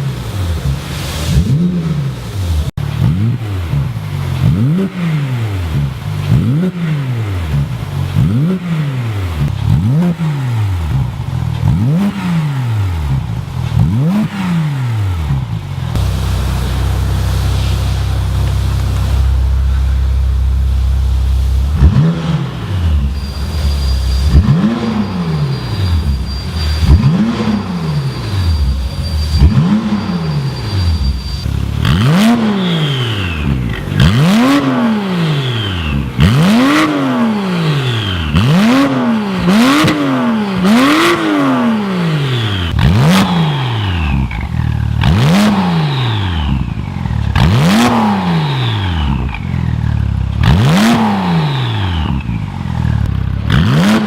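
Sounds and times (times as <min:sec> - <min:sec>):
car engine revving: 0:00.0 - 0:54.0
exhaust cracks: 0:00.0 - 0:54.0.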